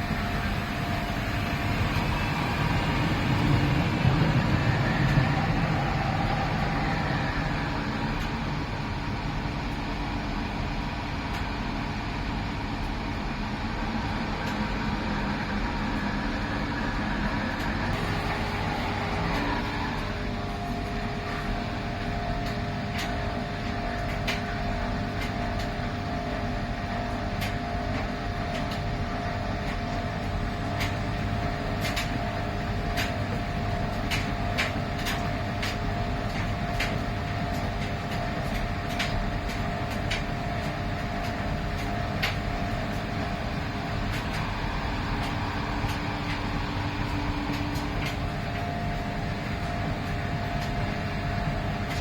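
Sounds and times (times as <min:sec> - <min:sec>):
washing machine hum and whine: 0:00.0 - 0:52.0.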